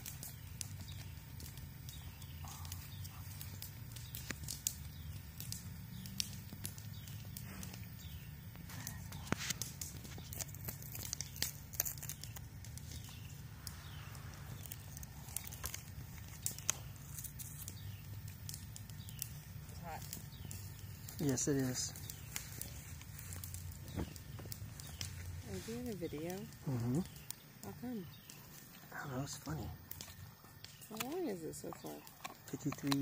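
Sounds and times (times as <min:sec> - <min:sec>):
dog gnawing wooden stick: 0:00.0 - 0:27.4, 0:29.4 - 0:33.0.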